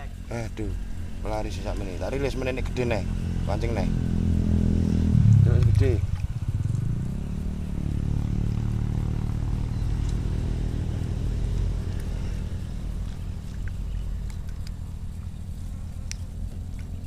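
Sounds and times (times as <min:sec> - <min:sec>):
motor engine droning: 0:00.0 - 0:17.0.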